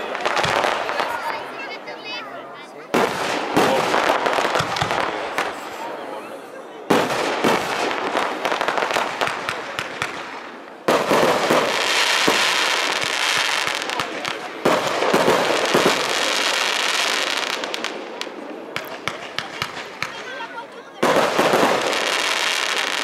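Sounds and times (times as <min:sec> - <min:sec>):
fireworks bursts: 0:00.0 - 0:23.0
fireworks crackling and popping: 0:00.0 - 0:23.0.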